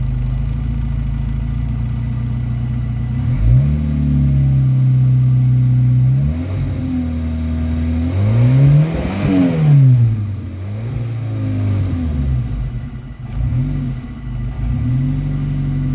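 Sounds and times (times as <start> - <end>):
turbocharged car engine revving: 3.0 - 15.9.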